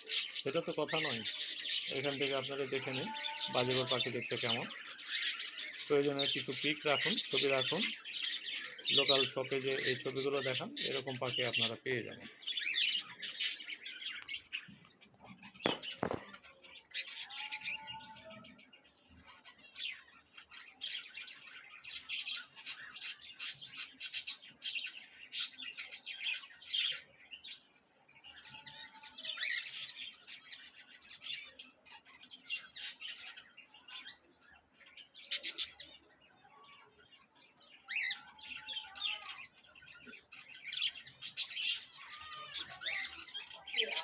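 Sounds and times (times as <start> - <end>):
budgerigars chirping and squawking: 0.0 - 36.5, 37.1 - 44.0.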